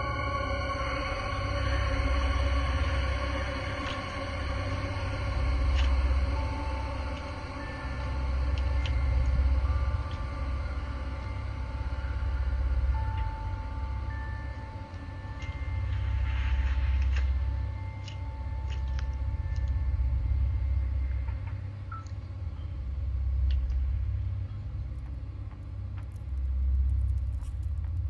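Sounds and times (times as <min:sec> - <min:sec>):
low rumble: 0:01.7 - 0:28.0.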